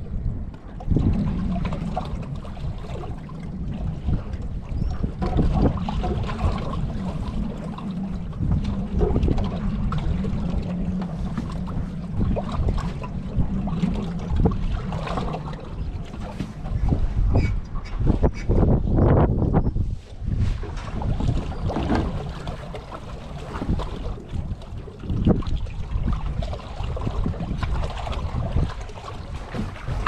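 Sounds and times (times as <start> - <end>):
water lapping at hull: 0.0 - 30.0
wind buffeting microphone: 0.0 - 30.0.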